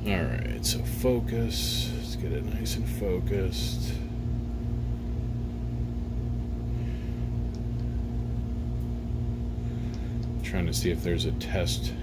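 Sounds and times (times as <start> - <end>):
projector cooling fans humming: 0.0 - 12.0.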